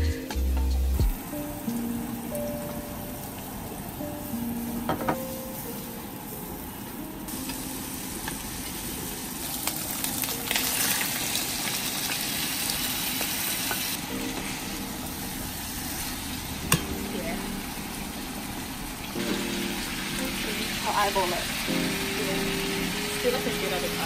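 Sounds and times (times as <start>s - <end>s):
food sizzling in a frying pan: 1.2s - 24.0s.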